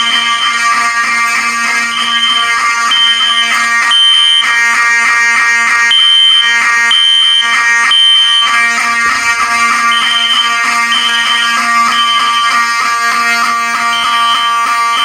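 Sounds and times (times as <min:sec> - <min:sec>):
continuous buzzy alarm horn: 0:00.0 - 0:15.0
fire alarm horn pulsing: 0:00.0 - 0:15.0.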